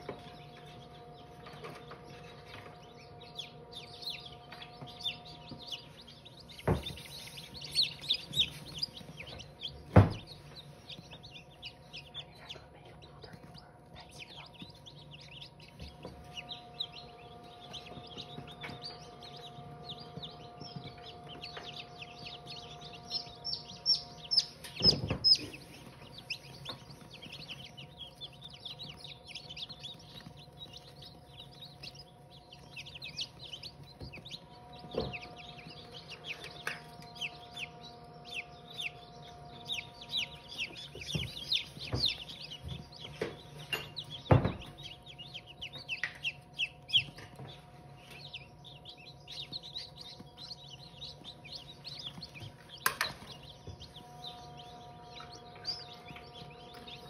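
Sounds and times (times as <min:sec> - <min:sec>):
chickens clucking and chirping: 0:00.0 - 0:57.0.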